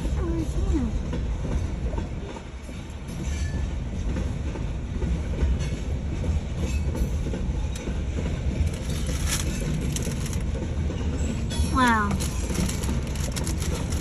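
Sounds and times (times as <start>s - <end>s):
clickety-clack over rail joints: 0.0s - 14.0s
train wheels rumbling on rails: 0.0s - 14.0s.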